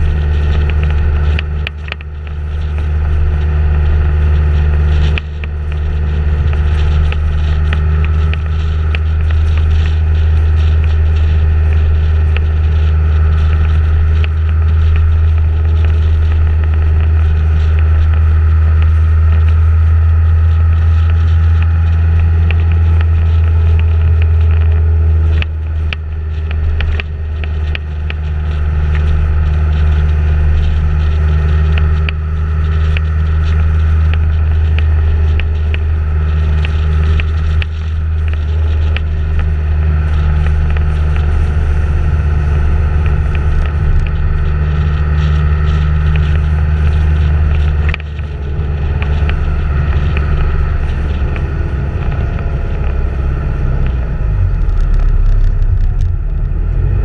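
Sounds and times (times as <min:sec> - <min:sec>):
road noise: 0:00.0 - 0:57.0
vehicle engine drone: 0:00.0 - 0:57.0
wind over microphone: 0:00.0 - 0:57.0.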